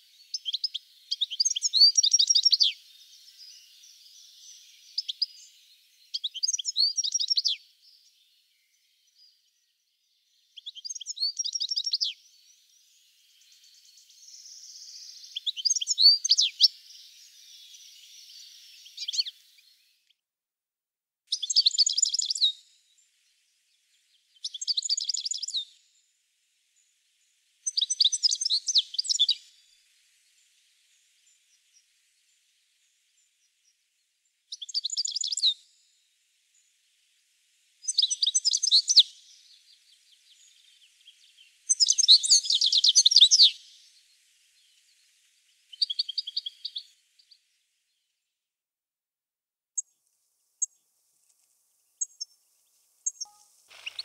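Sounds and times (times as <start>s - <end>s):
faint hiss: 0.0s - 20.1s, 21.3s - 48.4s, 49.8s - 54.0s
finch twittering song: 0.0s - 20.1s, 21.3s - 26.1s, 26.8s - 33.8s, 34.5s - 36.8s, 37.8s - 47.6s, 52.0s - 54.0s.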